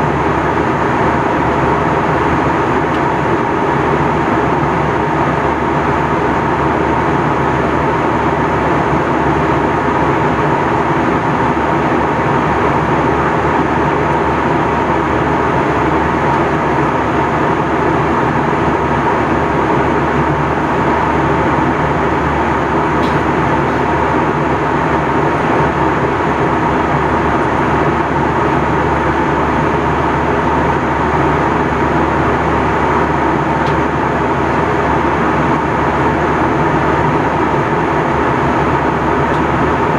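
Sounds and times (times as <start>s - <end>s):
airliner cabin noise: 0.0s - 39.9s.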